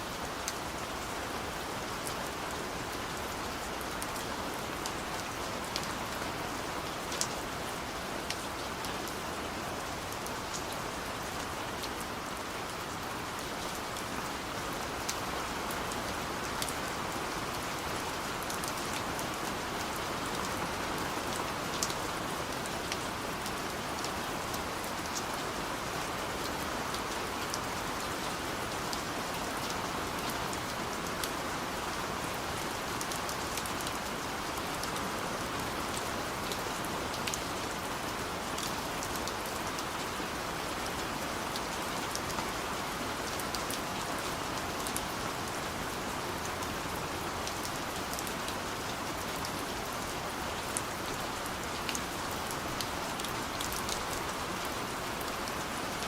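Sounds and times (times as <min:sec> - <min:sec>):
steady rain falling: 0:00.0 - 0:56.0
raindrops ticking on a surface: 0:02.0 - 0:56.0.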